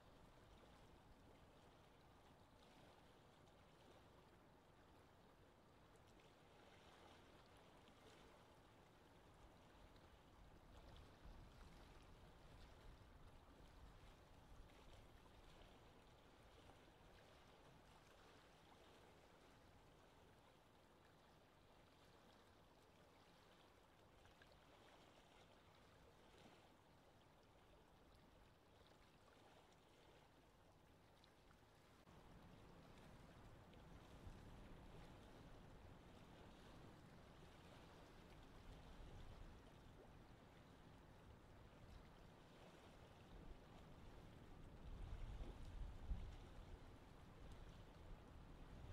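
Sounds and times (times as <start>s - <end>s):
gentle wind: 0.0s - 48.9s
lake water: 0.0s - 48.9s.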